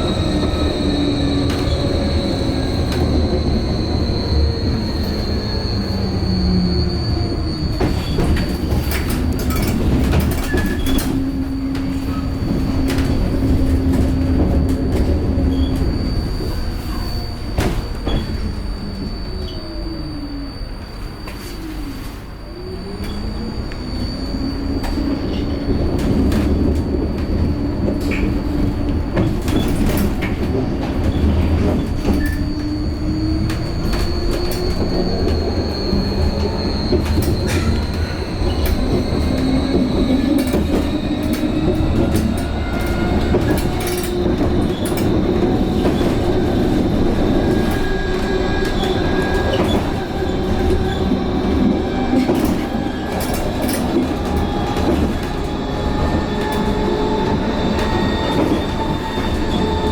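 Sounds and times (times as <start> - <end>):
tram rumbling and whining: 0.0 - 59.9.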